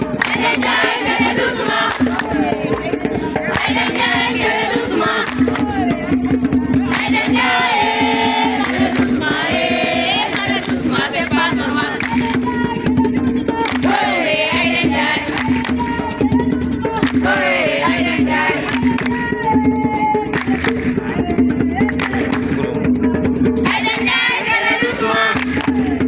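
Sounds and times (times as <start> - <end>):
group of voices singing: 0.0 - 22.4, 23.0 - 26.0
sharp percussive strikes: 0.0 - 26.0.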